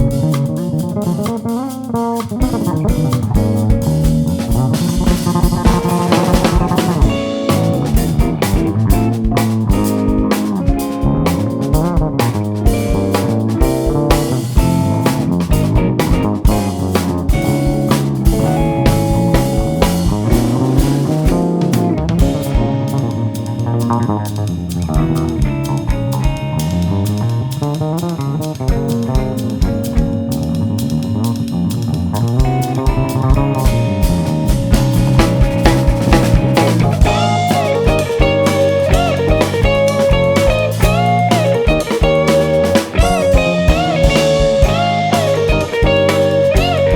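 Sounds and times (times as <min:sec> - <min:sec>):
higher lead melody: 0:00.0 - 0:46.9
jazz fusion band playing: 0:00.0 - 0:46.9.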